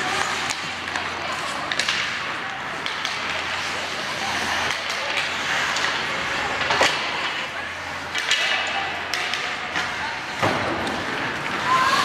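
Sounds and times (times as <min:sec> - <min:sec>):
hockey sticks and puck clacking: 0:00.0 - 0:12.0
skates scraping ice: 0:00.0 - 0:12.0.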